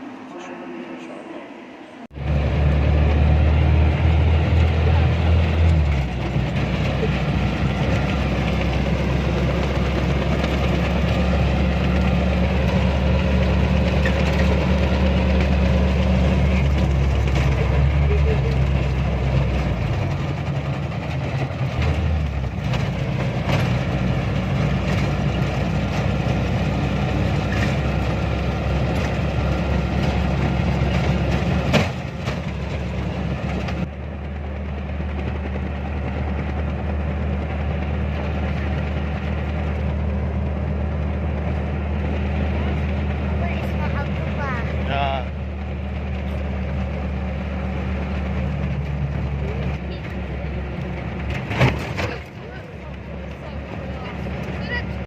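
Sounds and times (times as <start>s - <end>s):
vehicle engine running: 2.1s - 55.0s.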